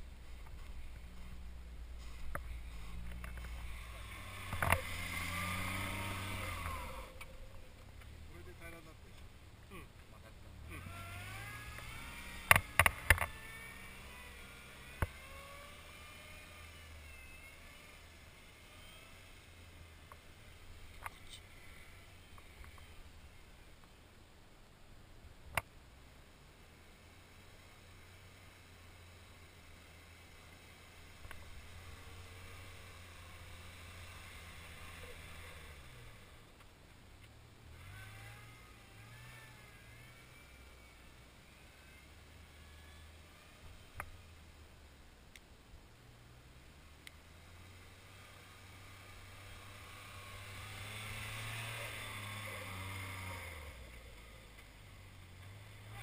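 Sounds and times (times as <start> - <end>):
small engine running with whine: 0.0 - 23.8, 25.9 - 45.0, 46.1 - 56.0.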